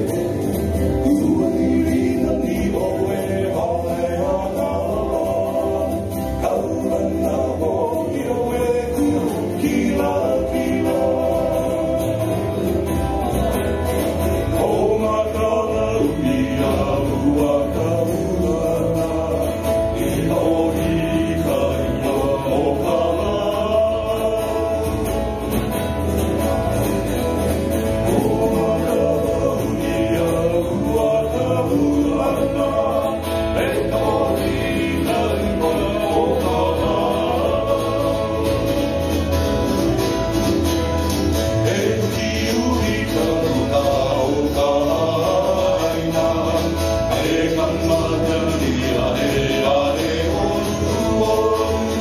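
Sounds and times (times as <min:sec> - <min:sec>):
live band playing and singing: 0:00.0 - 0:52.0.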